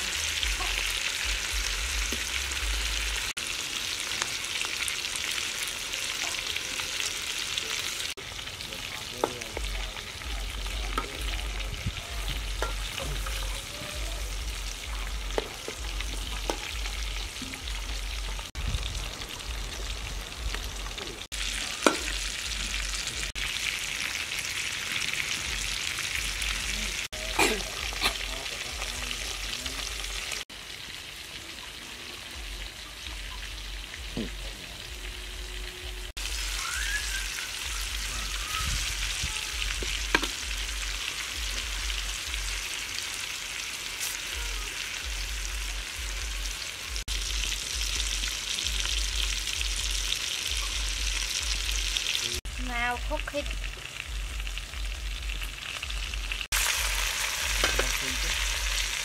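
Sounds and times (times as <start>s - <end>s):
oil sizzling in a wok: 0.0s - 59.0s.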